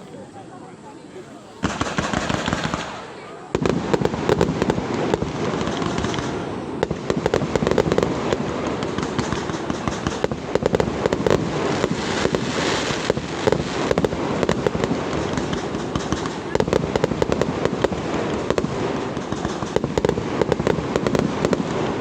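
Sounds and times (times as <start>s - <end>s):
firework crackle: 1.4s - 22.0s
firework shells bursting: 1.6s - 22.0s.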